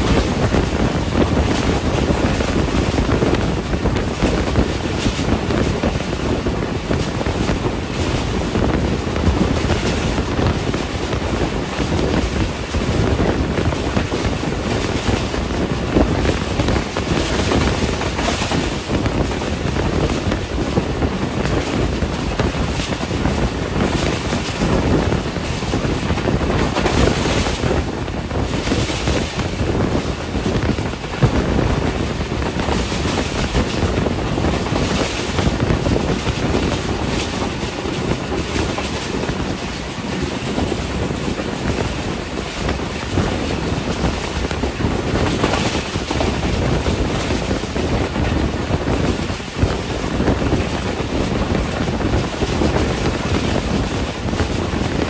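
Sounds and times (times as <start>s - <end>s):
train wheels clattering on rails: 0.0s - 55.0s
wind rushing past window: 0.0s - 55.0s.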